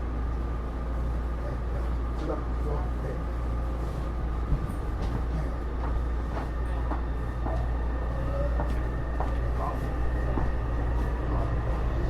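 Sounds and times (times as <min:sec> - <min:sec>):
metro car rumble: 0:00.0 - 0:12.0.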